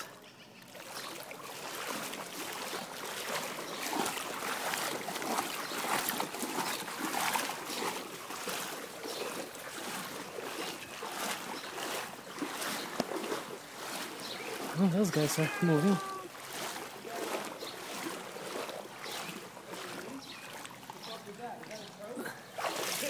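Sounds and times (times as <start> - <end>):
legs wading through water: 0.0 - 23.0.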